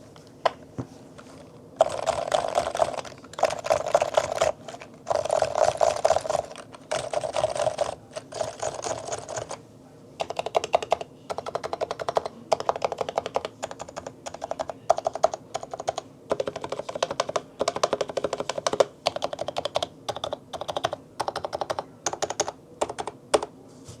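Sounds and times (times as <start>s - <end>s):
rapid keyboard typing: 1.2s - 9.6s, 10.2s - 23.5s.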